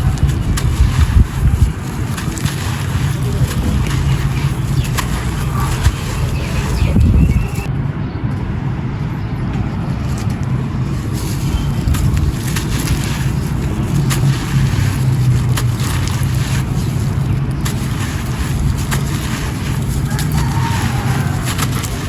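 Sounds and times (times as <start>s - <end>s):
concrete crumbling and crunching: 0.0s - 7.7s, 10.9s - 22.0s
sharp crackles: 0.0s - 7.7s, 10.9s - 22.0s.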